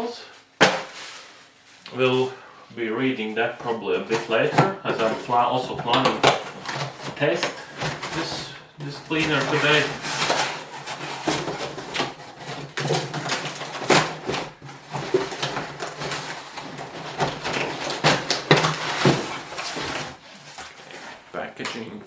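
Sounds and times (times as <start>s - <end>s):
packaging rustling and scraping: 0.4s - 22.0s.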